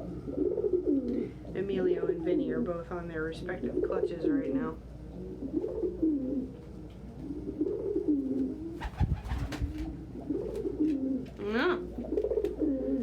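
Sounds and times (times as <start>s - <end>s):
pigeons cooing: 0.0s - 2.7s, 3.4s - 13.0s.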